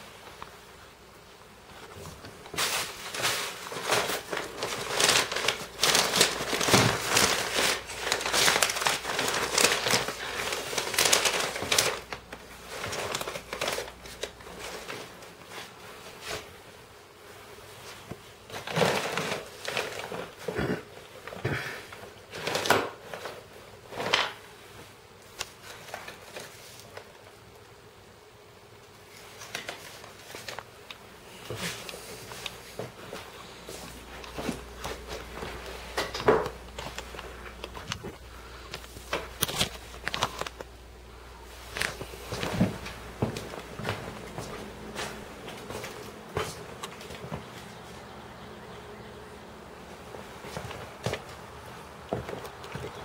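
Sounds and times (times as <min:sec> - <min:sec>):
rustling and crinkling: 0:00.0 - 0:53.0.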